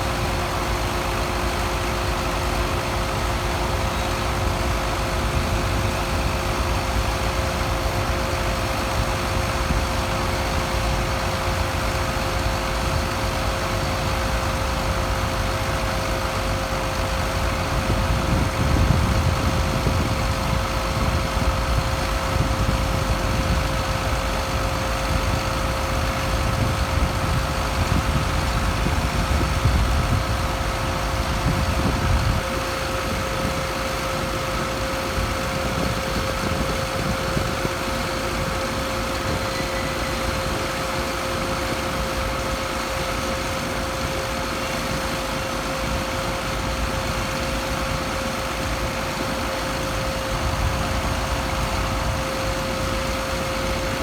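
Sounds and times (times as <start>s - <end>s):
engine running with whine: 0.0s - 54.0s.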